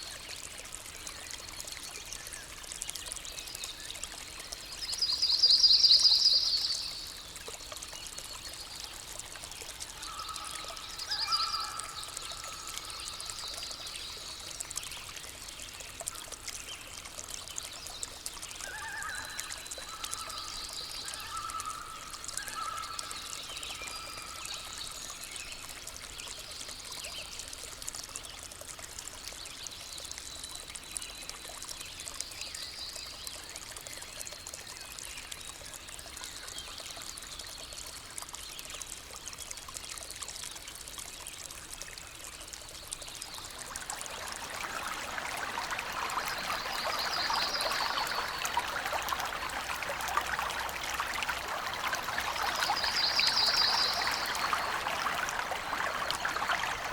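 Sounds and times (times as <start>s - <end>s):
stream water splashing: 0.0s - 56.9s.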